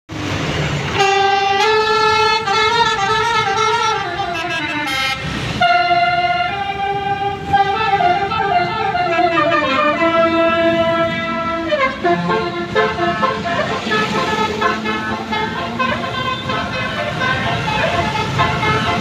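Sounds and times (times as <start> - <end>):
multi-tone bus air horn melody: 0.8 - 19.0.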